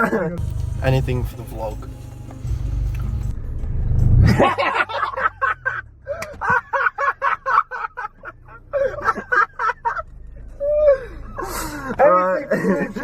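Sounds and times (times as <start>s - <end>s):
low car rumble: 0.4s - 12.0s.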